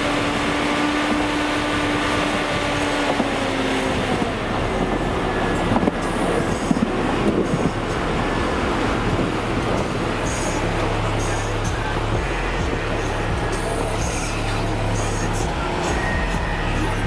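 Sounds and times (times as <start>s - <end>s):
railcar mover engine rolling: 0.0s - 17.0s.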